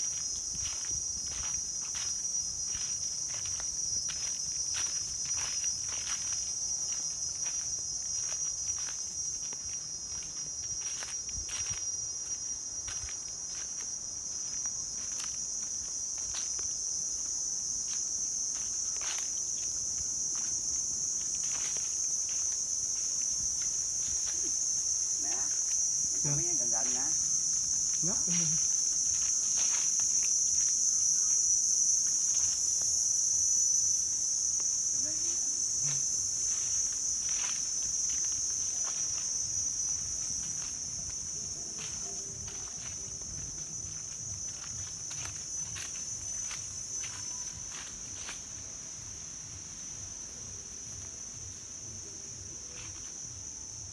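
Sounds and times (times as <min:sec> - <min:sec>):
footsteps on dry leaves: 0:00.0 - 0:50.3
insects droning: 0:00.0 - 0:53.9.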